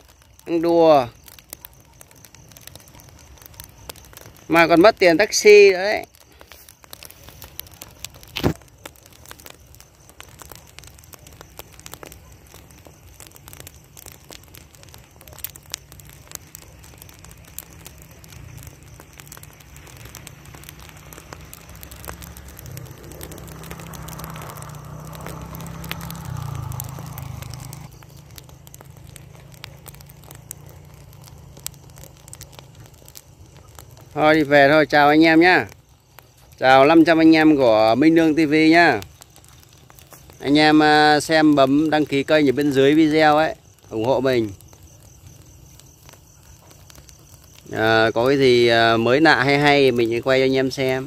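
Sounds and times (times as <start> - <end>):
burning straw crackling and popping: 0.0 - 51.0.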